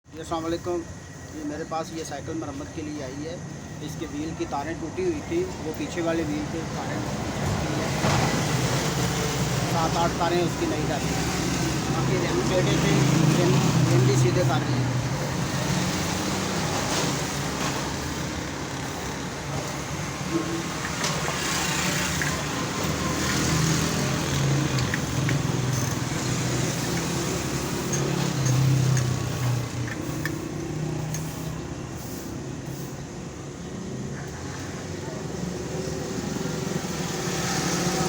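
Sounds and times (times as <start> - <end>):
road traffic passing: 0.1 - 38.0.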